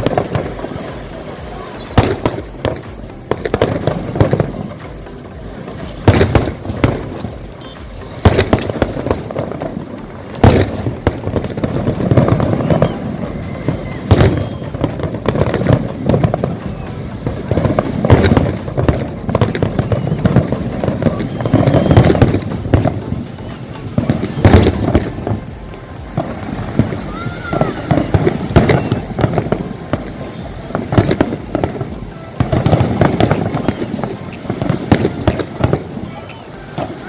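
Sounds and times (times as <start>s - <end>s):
fireworks bangs: 0.0s - 37.0s
fireworks crackling: 0.0s - 37.0s
music playing: 0.0s - 37.0s.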